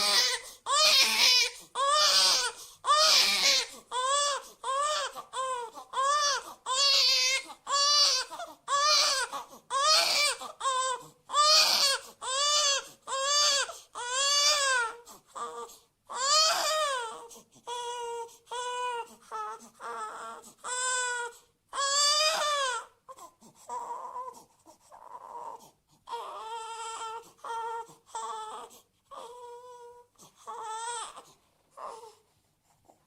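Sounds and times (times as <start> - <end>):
baby crying: 0.0 - 32.2.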